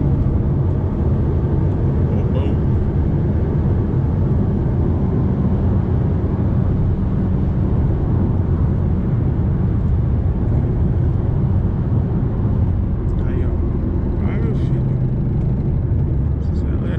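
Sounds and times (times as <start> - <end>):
engine and road noise rumble: 0.0 - 16.9.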